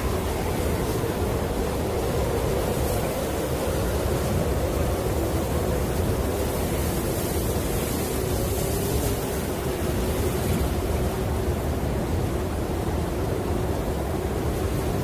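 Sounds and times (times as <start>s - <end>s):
howling snowstorm wind: 0.0s - 15.0s.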